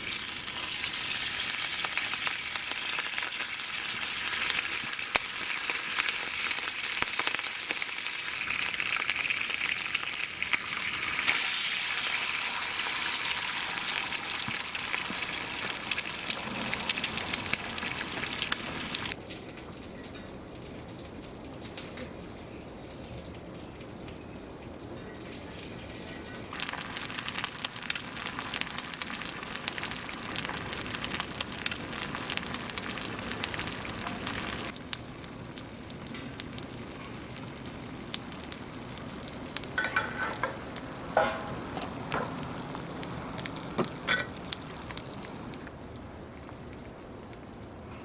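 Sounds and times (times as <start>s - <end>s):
fire crackling in a fire pit: 0.0s - 48.0s.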